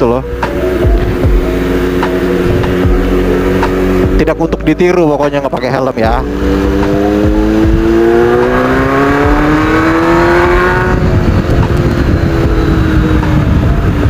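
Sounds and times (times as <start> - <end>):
low wind rumble: 0.0 - 14.0
motorcycle engine accelerating: 0.0 - 14.0.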